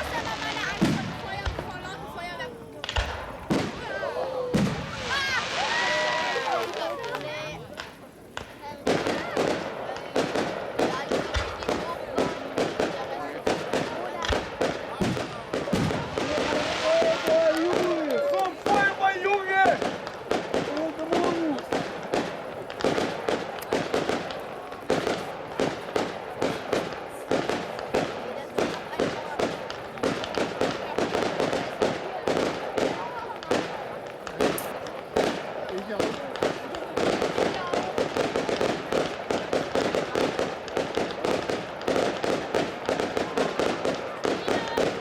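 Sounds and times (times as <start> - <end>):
fireworks bangs: 0.0 - 45.0.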